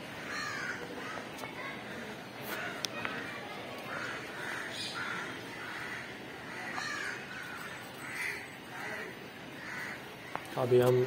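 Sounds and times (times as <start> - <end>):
crows cawing: 0.0 - 10.9.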